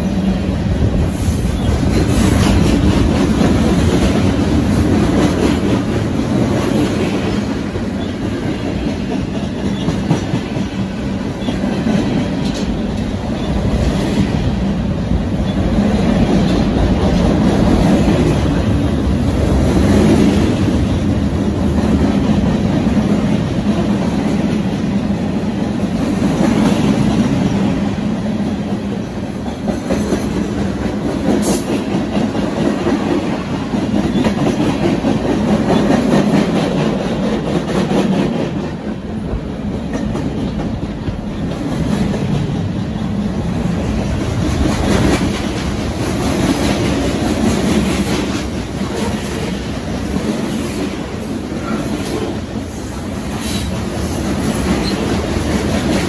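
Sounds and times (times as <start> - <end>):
freight train rumbling past: 0.0 - 56.0
steel wheels on rails: 0.0 - 56.0.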